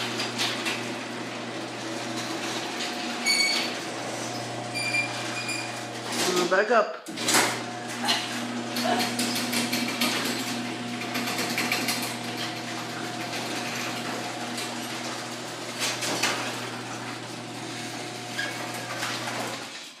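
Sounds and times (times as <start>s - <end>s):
garage door opener motor hum: 0.0s - 20.0s.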